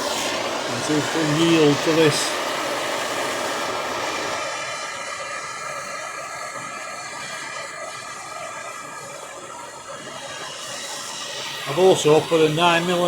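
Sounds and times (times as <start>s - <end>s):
blowtorch hissing: 0.0s - 13.0s.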